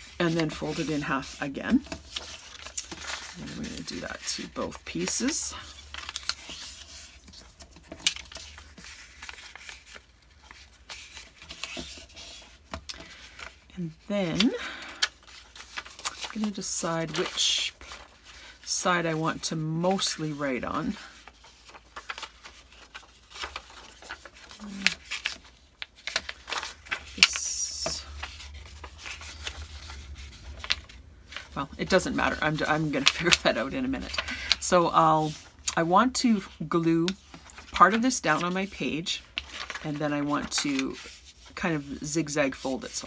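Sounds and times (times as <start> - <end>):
paper being folded and creased: 0.0 - 43.0.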